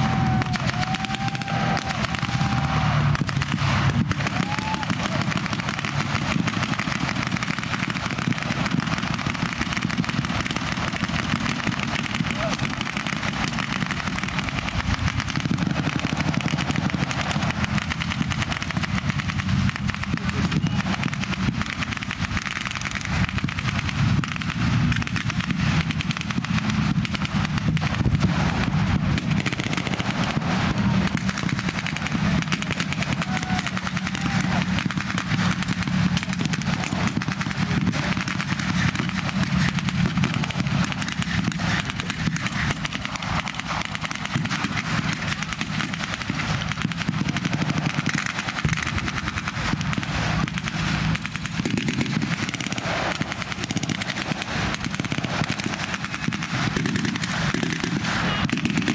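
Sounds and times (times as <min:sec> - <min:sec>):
rapid machine gun and rifle fire: 0:00.0 - 0:58.9
tank and vehicle engines running: 0:00.0 - 0:58.9.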